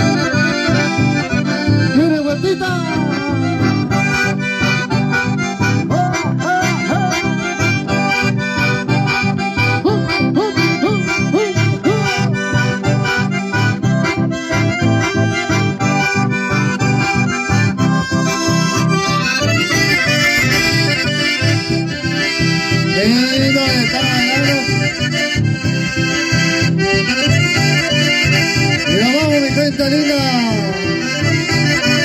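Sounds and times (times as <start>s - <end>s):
acoustic guitars strumming: 0.0s - 32.0s
button accordion: 0.0s - 32.0s.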